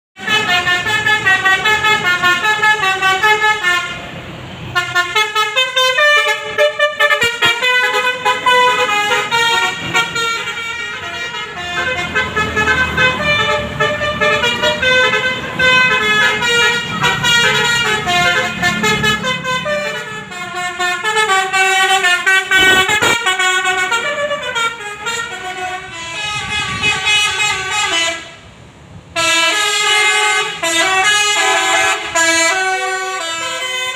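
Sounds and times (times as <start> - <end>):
bus musical horn playing melodies: 0.2 - 33.9.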